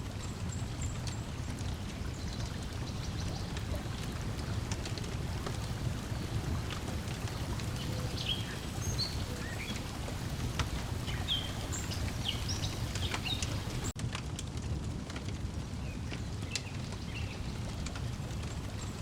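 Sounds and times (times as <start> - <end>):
small birds chirping: 0.0 - 14.0, 15.8 - 19.0
water lapping against shore: 0.0 - 14.0, 16.3 - 19.0
wood fire crackling: 0.0 - 19.0.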